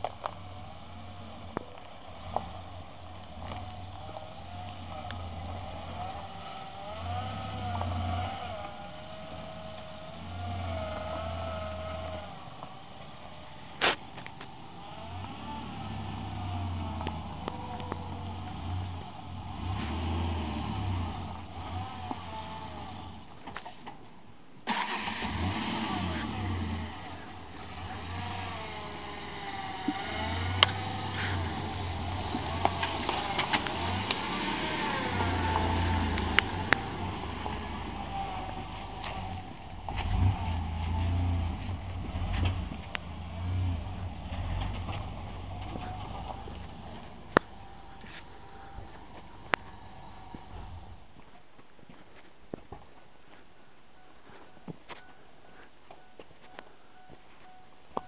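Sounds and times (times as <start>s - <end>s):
engine low rumble: 0.0s - 51.7s.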